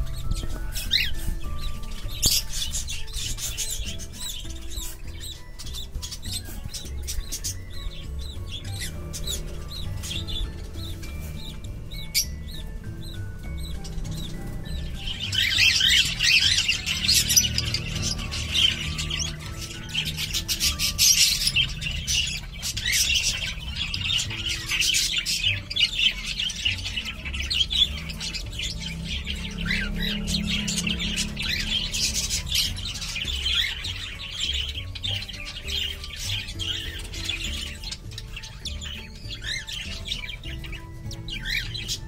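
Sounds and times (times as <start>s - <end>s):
background music: 0.0s - 42.0s
cockatiels chirping and squawking: 0.0s - 42.0s.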